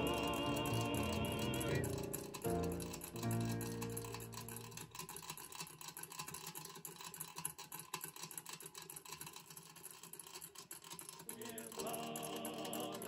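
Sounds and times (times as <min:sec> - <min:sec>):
toy steam engine ticking and clattering: 0:00.0 - 0:13.0.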